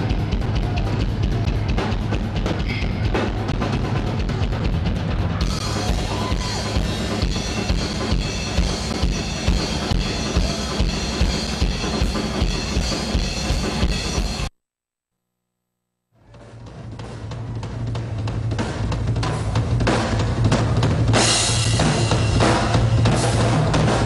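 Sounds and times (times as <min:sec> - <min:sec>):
drum solo: 0:00.0 - 0:14.5, 0:16.3 - 0:24.0.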